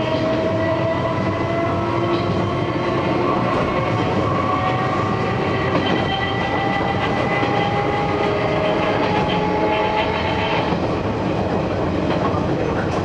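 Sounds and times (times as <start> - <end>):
electric train motors whining: 0.0 - 10.9
wheels running on rails: 0.0 - 13.0.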